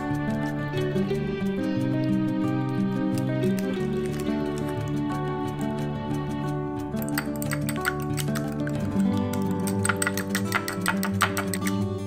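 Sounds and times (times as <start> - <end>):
gentle background music: 0.0 - 12.0.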